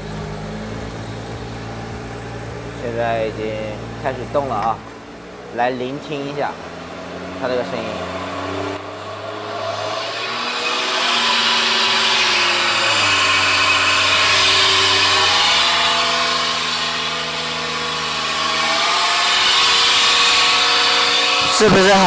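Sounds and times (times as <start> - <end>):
car differential droning whine: 0.0 - 22.0.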